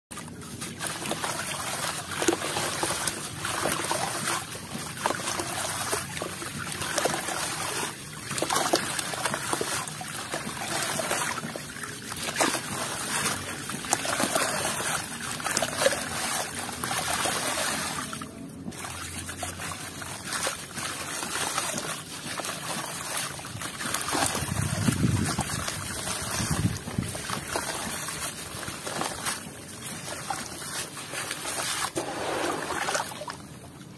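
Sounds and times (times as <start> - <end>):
water splashing: 0.1 - 33.9
wet squishing: 0.1 - 33.9
sand trickling into water: 0.3 - 33.7.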